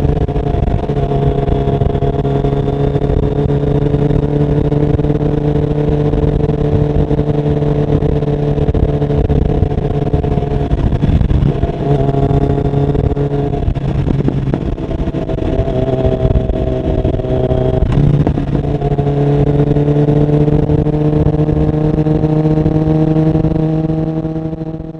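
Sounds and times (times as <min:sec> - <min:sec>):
motorcycle engine at steady revs: 0:00.0 - 0:24.9.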